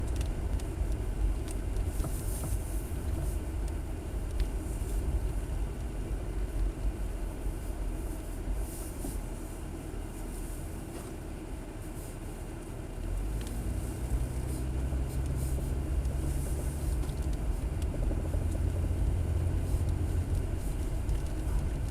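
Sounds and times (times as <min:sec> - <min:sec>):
car engine and road rumble: 0:00.0 - 0:21.9.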